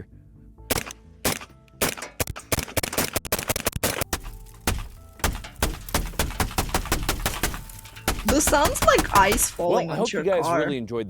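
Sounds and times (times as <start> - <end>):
rifle rounds striking windshield: 0.7 - 9.7.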